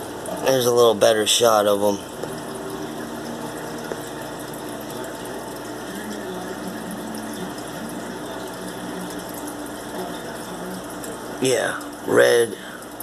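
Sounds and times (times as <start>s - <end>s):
aquarium water pump running: 0.0s - 13.0s
faint hum: 0.0s - 13.0s.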